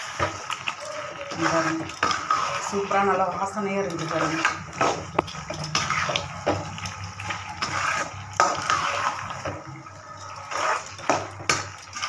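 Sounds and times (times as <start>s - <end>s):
spoon stirring thick gravy: 0.0s - 12.0s
spoon scraping metal pan: 1.3s - 12.0s.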